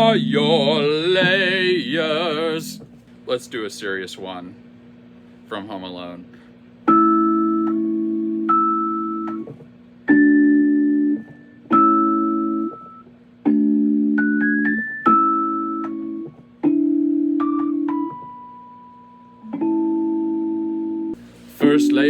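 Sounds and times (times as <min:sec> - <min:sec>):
slow piano-like keyboard chords: 0:00.0 - 0:02.9, 0:06.9 - 0:22.0.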